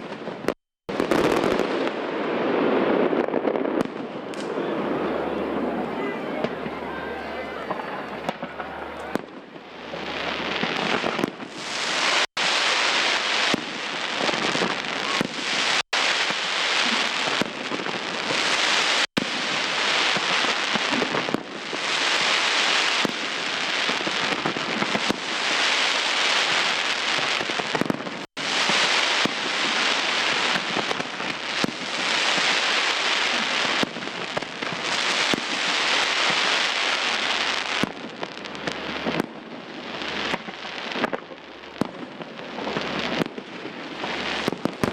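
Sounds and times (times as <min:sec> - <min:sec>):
fireworks crackling: 0:00.0 - 0:44.9.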